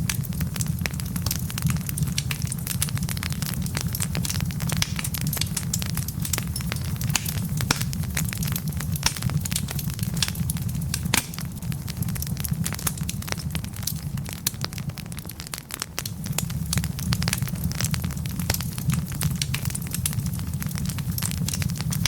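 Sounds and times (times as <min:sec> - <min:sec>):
logs crackling and popping: 0:00.0 - 0:22.0
low rumble of flame: 0:00.0 - 0:22.0.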